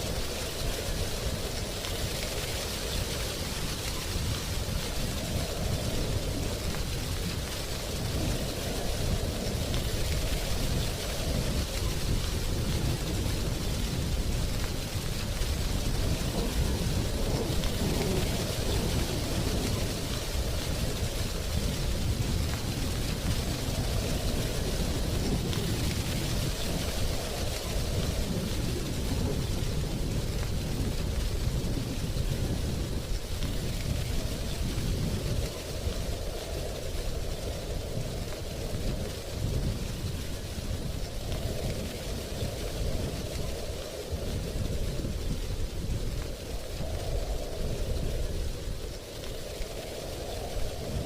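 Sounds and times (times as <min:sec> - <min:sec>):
wind through tree leaves: 0:00.0 - 0:51.0.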